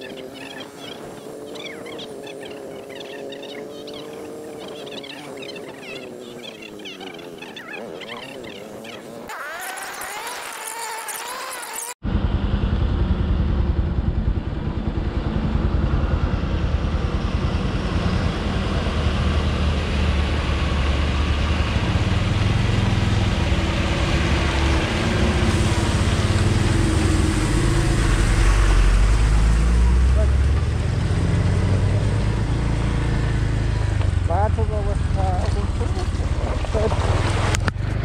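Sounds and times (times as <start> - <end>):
vehicle engine rumbling: 0.0 - 38.0.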